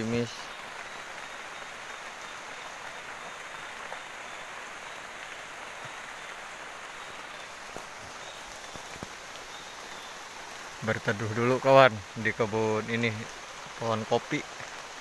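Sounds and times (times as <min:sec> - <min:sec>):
light rain on leaves: 0:00.0 - 0:15.0.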